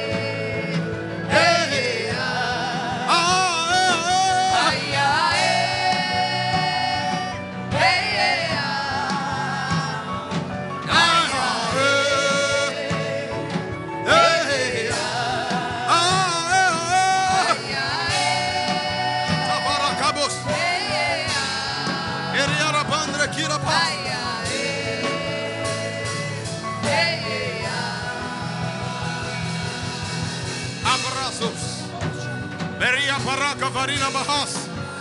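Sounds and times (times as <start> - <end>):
person singing with vibrato: 0.0 - 30.5
instrumental backing: 0.0 - 35.0.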